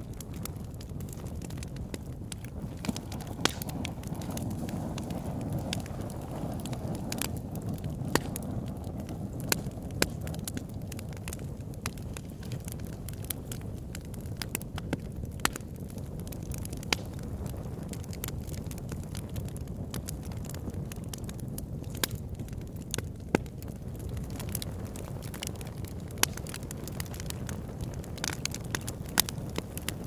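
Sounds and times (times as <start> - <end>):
log fire crackling and popping: 0.0 - 30.0
low fire rumble: 0.0 - 30.0.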